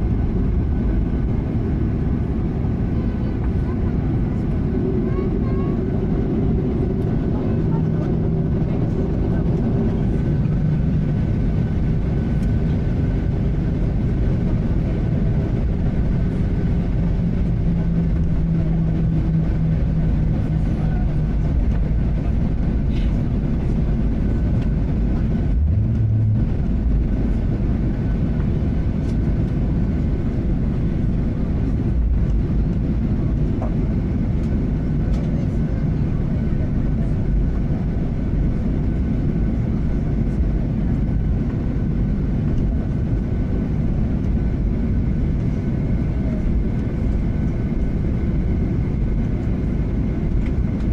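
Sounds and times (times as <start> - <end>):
jet engines idling rumble: 0.0 - 50.9.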